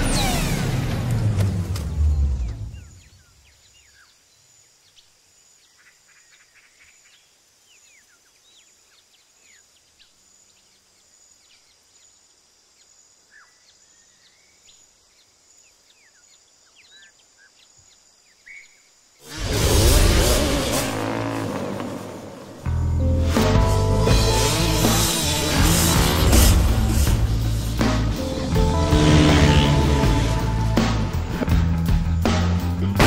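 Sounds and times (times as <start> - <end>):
high insect drone: 2.7 - 31.5.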